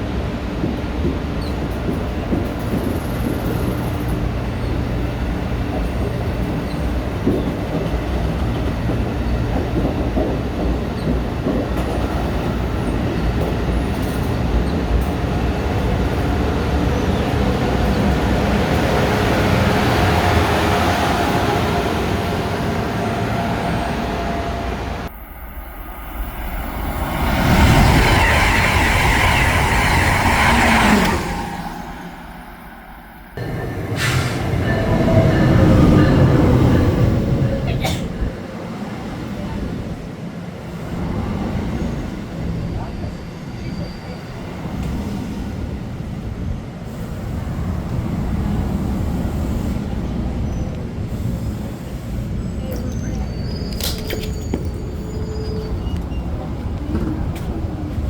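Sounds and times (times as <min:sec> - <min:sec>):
train rail noise: 0:00.0 - 0:58.0
train rumbling with rushing hiss: 0:00.0 - 0:58.0.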